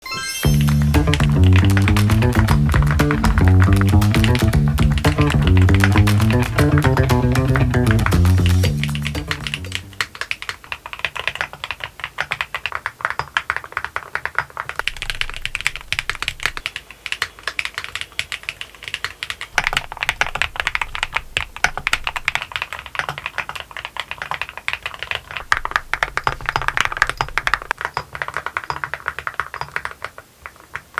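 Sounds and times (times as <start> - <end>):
mechanical keyboard typing: 0.6 - 30.9.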